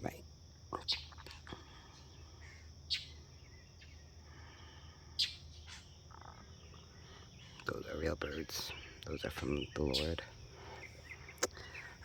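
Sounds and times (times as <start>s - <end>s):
low background hum: 0.0s - 12.0s
sharp bird chirps: 0.8s - 12.0s.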